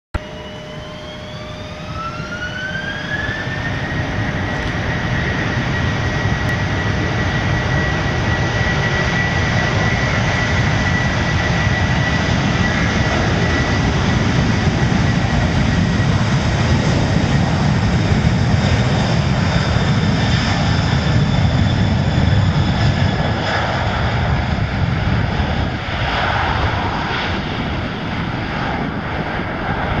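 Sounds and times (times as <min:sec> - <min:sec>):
jet engine whine: 0:00.2 - 0:30.0.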